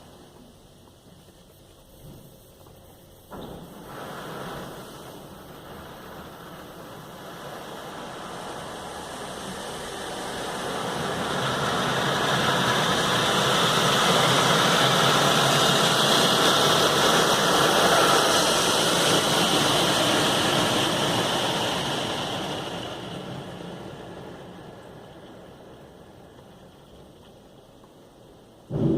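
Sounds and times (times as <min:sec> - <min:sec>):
car wash equipment rushing: 0:03.3 - 0:27.5.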